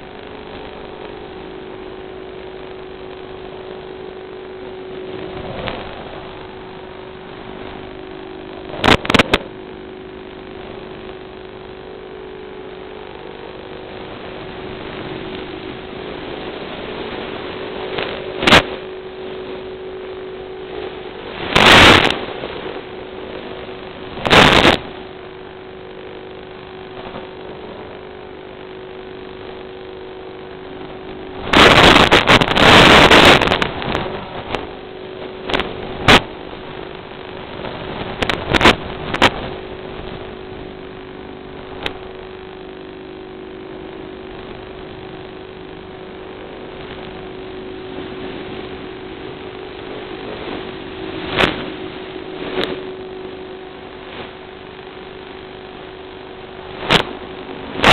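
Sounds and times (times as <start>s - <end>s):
static hissing and crackling: 0.0s - 57.9s
steady hum: 0.0s - 57.9s.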